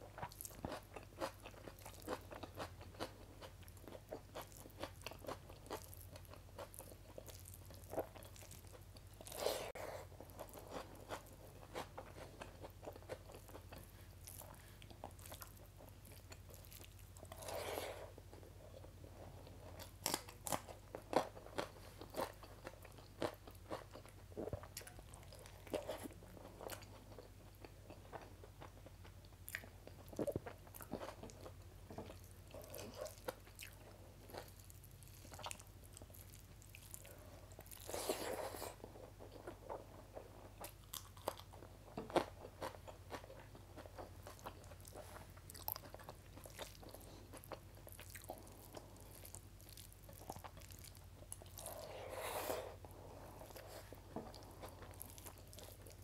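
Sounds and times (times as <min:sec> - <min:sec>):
person chewing with crunchy bites: 0:00.0 - 0:56.0.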